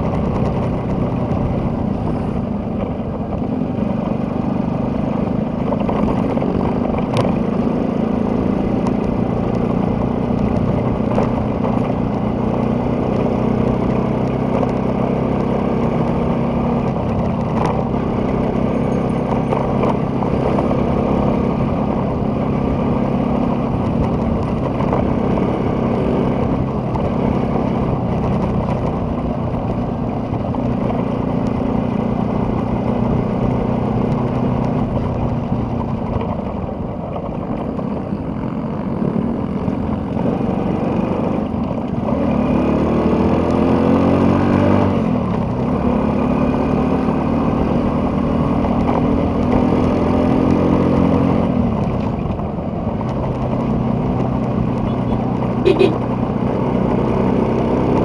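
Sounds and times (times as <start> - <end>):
road noise: 0.0 - 58.0
vehicle engine humming: 0.0 - 58.0.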